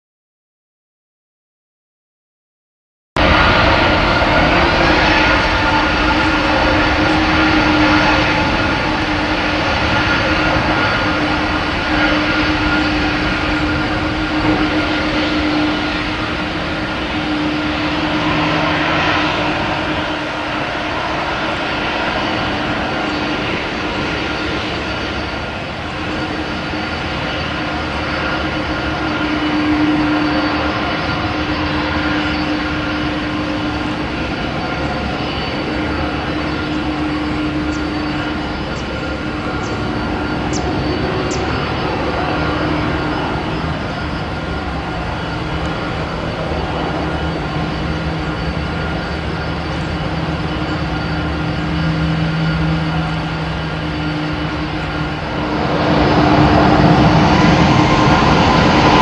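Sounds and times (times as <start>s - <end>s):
jet engines taxiing: 3.2s - 59.0s.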